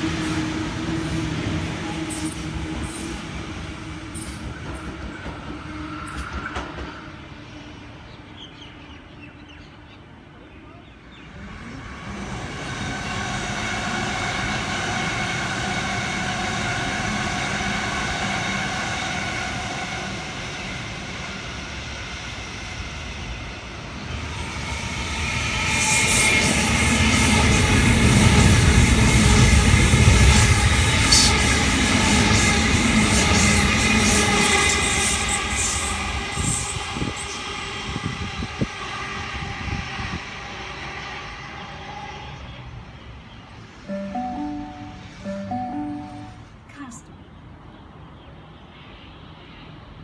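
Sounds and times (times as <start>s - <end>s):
deep train rumble: 0.0s - 46.9s
electric train whine: 0.0s - 48.0s.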